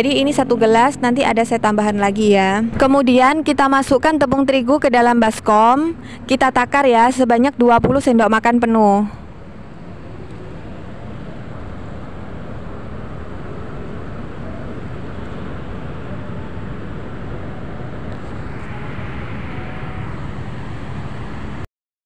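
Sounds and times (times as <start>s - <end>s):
rushing rumbling noise: 0.0s - 21.7s.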